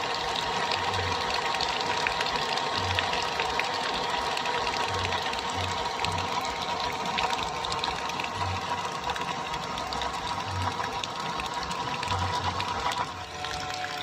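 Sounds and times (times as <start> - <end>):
small electric motor whine: 0.0 - 14.0.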